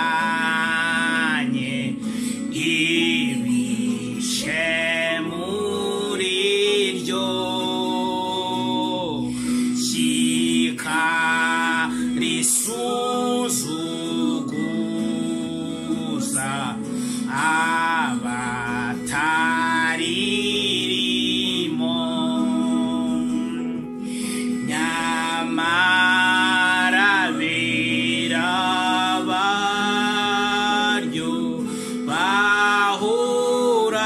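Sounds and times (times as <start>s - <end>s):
man singing gospel song: 0.0s - 34.0s.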